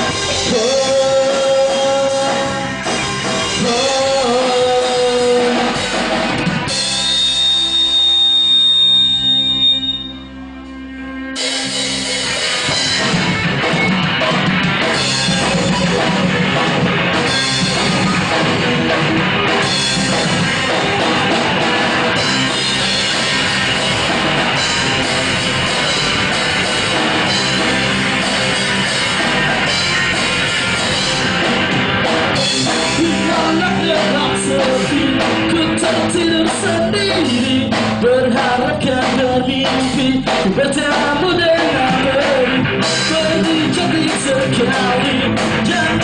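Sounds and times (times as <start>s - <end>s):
drum kit with crashing cymbals: 0.0s - 9.9s, 11.4s - 46.0s
bass guitar: 0.0s - 46.0s
distorted electric guitars: 0.0s - 46.0s.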